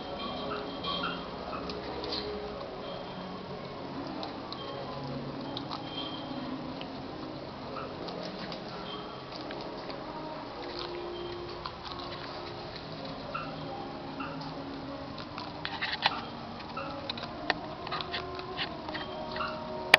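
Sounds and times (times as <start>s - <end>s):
faint high notes: 0.0s - 19.9s
guinea pigs nibbling and moving: 0.0s - 19.9s.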